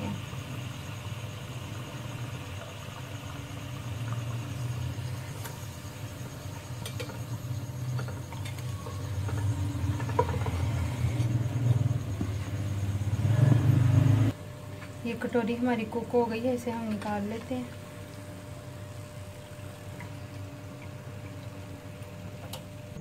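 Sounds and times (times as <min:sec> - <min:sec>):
oil sizzling in a pan: 0:00.0 - 0:22.5
steady low hum: 0:00.0 - 0:23.0.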